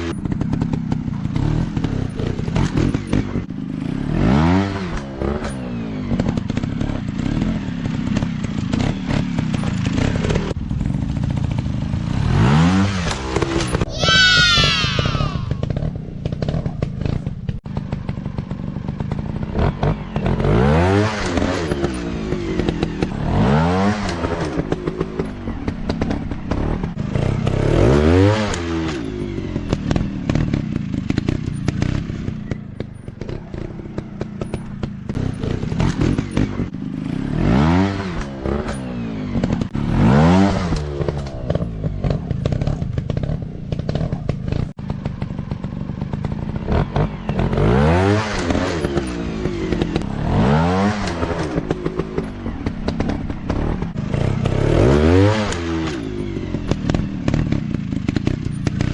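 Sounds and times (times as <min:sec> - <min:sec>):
dirt bike engine revving: 0:00.0 - 0:32.6, 0:33.2 - 0:58.9.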